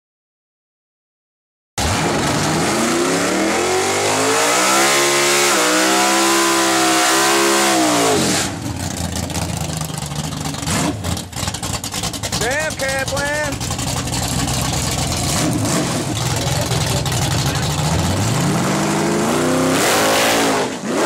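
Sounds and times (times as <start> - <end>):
car engine revving: 1.8 - 21.0.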